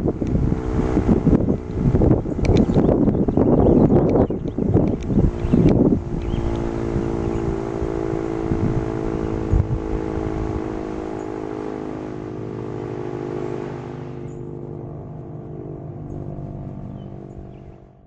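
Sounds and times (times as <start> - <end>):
warning siren steady tone: 0.0 - 18.0
wind on microphone: 0.0 - 18.0.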